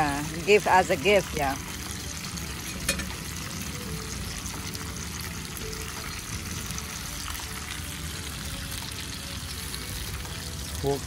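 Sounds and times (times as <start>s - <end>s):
food sizzling on a grill pan: 0.0s - 11.0s.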